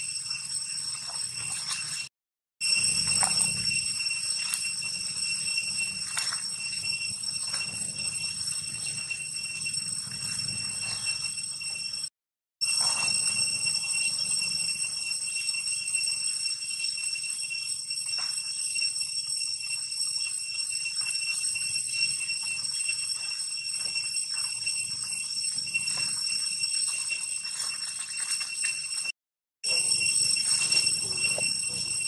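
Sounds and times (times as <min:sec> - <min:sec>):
high-pitched insect drone: 0:00.0 - 0:29.1, 0:29.7 - 0:32.0.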